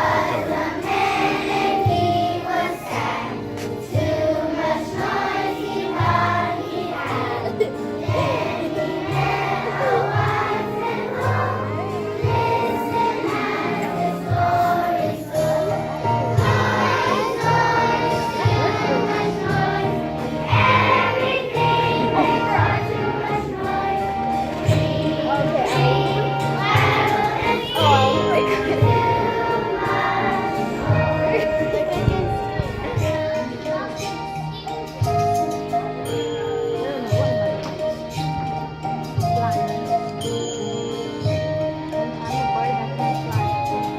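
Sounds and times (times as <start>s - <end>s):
children's choir singing: 0.0s - 38.3s
instrumental accompaniment: 0.0s - 43.9s.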